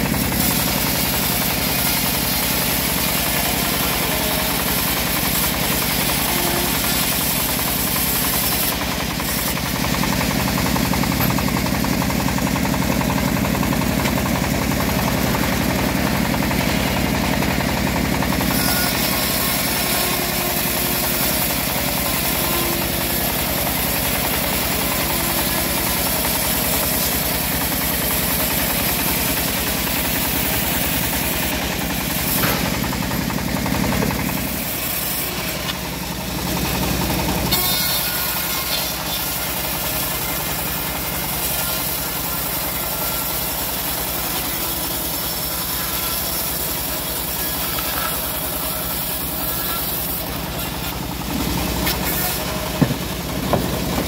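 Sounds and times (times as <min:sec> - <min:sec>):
band sawmill cutting log: 0:00.0 - 0:54.0.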